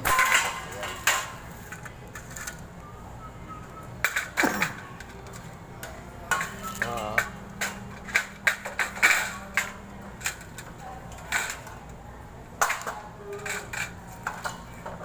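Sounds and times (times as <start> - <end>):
sheet metal parts clicking and clattering: 0.0 - 2.6, 4.0 - 11.8, 12.6 - 15.0.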